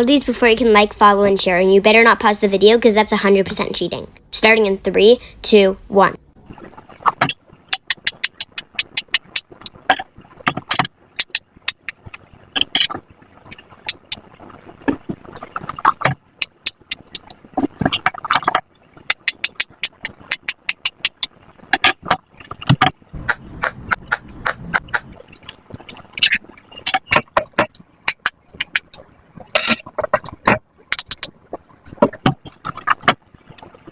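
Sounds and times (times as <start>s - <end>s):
pop-it bubbles popping: 6.5s - 33.9s.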